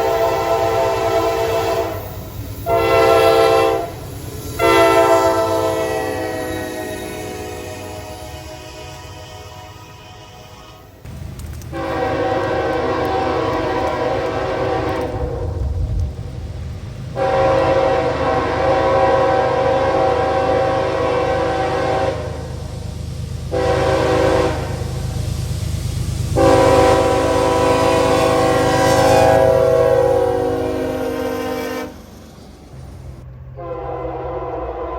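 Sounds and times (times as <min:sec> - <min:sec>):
locomotive air horn blasts: 0:00.0 - 0:04.0, 0:04.6 - 0:11.0, 0:11.7 - 0:15.8, 0:17.2 - 0:22.5, 0:23.5 - 0:24.9, 0:26.3 - 0:32.1, 0:33.5 - 0:34.9
low rumble of train: 0:00.0 - 0:34.9.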